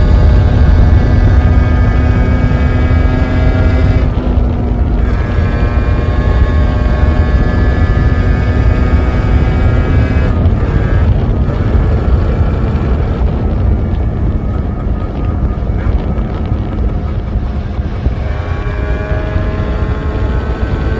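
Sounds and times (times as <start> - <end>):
two-stroke motorcycle engine running: 0.0 - 20.9.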